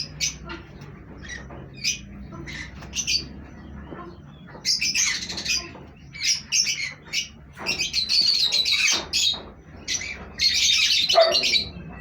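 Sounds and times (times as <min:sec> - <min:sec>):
parrots and sparrows calling: 0:00.0 - 0:12.0.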